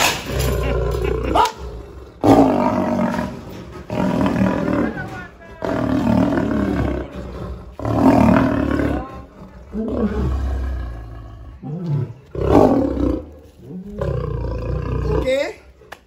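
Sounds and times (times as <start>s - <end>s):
lion growling and snarling: 0.0s - 15.4s.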